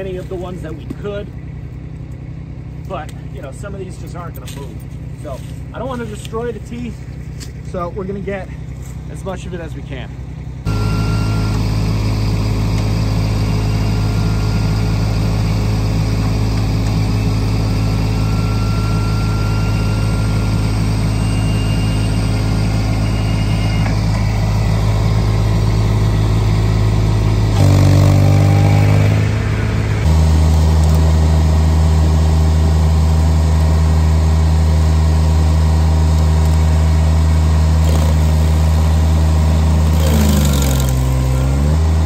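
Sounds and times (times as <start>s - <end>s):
skid steer engine running: 0.0s - 42.0s.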